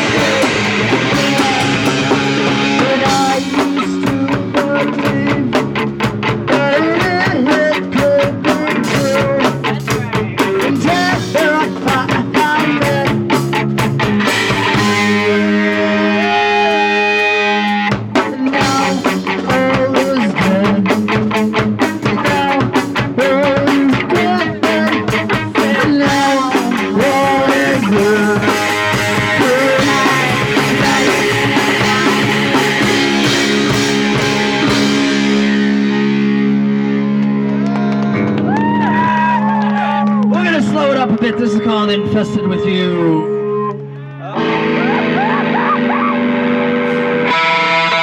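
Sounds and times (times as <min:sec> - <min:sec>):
fast drum kit: 0:00.0 - 0:41.4
distorted electric guitar: 0:00.0 - 0:48.0.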